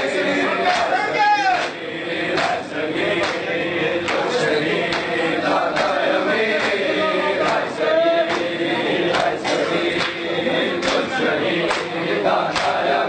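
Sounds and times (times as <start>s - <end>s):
men chanting in chorus: 0.0s - 13.0s.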